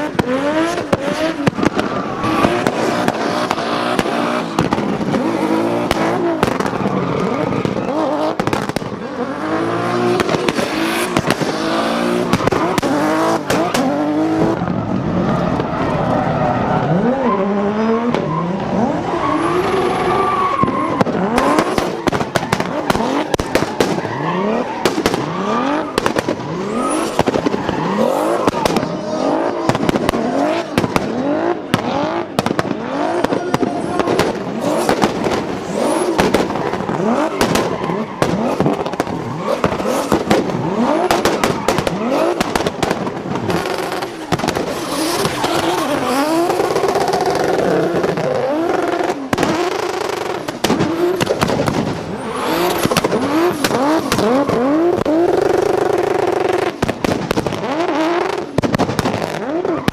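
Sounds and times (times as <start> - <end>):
exhaust pops and bangs: 0.0 - 9.2, 10.0 - 16.2, 19.8 - 59.9
car engines revving hard: 0.0 - 59.9.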